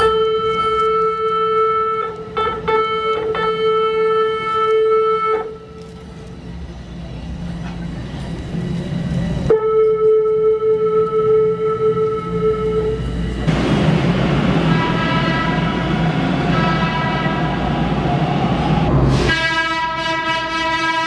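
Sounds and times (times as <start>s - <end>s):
subway train horn blast: 0.0s - 6.3s, 9.4s - 18.2s, 18.9s - 21.0s
train rumble: 0.0s - 21.0s.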